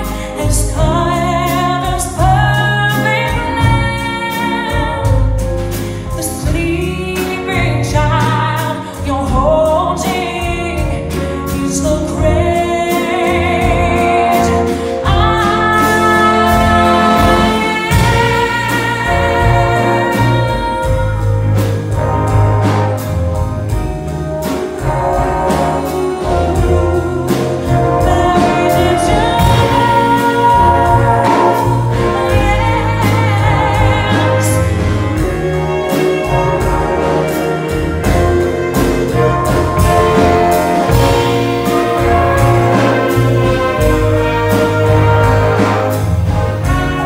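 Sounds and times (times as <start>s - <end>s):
woman singing: 0.0s - 5.5s, 6.1s - 22.3s, 24.8s - 45.9s
big band playing: 0.0s - 47.0s.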